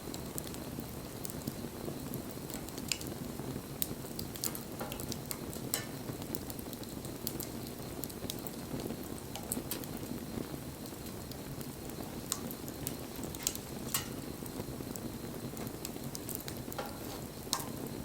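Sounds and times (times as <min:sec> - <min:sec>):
burning wood crackling and popping: 0:00.0 - 0:18.0.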